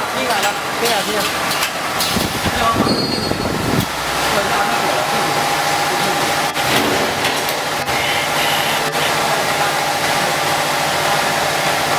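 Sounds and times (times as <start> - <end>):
machine motors humming and whirring: 0.0 - 11.9.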